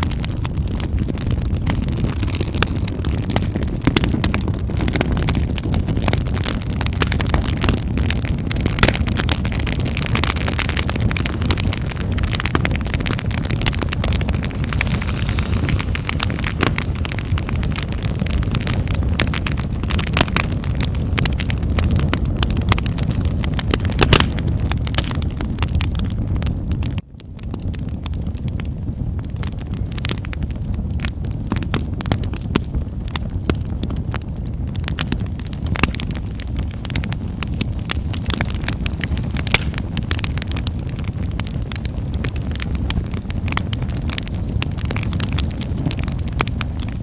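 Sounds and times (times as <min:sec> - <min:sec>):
fire crackling and popping: 0:00.0 - 0:47.0
low rumble of flames: 0:00.0 - 0:47.0.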